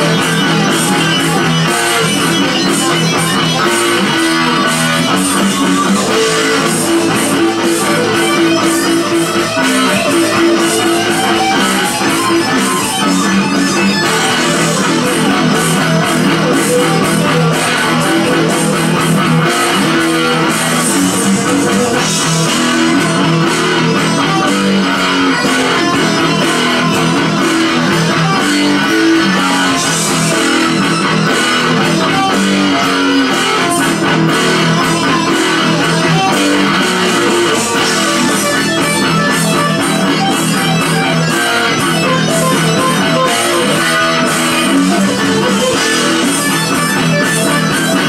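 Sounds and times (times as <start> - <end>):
electric guitar rock riffs: 0.0 - 48.0.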